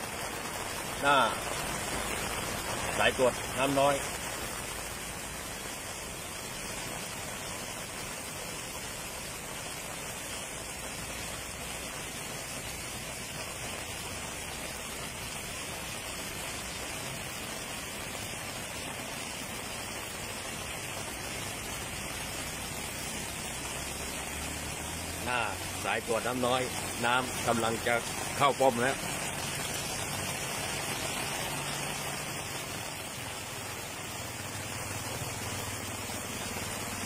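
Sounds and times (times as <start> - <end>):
heavy rain on flooded road: 0.0 - 37.0.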